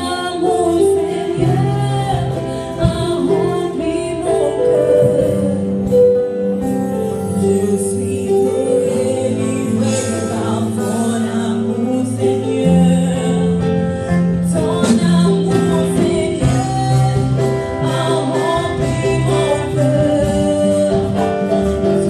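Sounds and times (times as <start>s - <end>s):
drums: 0.0s - 22.0s
keyboard: 0.0s - 22.0s
woman singing lead: 0.0s - 22.0s.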